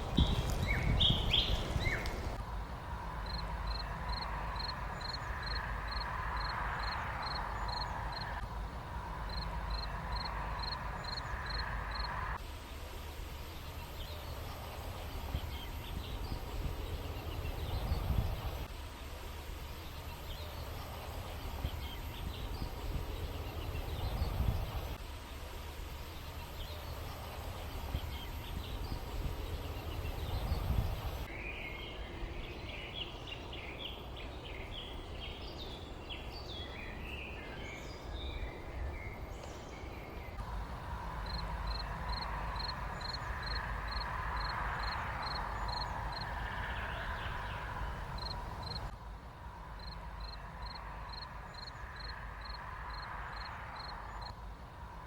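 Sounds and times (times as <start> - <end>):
birds chirping: 0.0 - 2.4, 3.0 - 8.4, 9.0 - 12.3, 13.5 - 18.7, 19.6 - 25.4, 26.1 - 48.9
wind rumble on microphone: 0.0 - 12.4, 13.3 - 25.1, 26.2 - 55.0.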